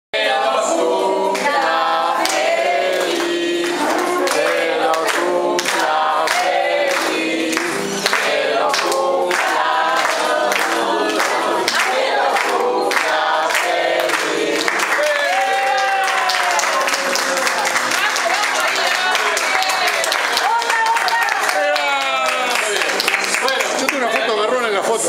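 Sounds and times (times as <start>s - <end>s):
group singing: 0.1s - 21.7s.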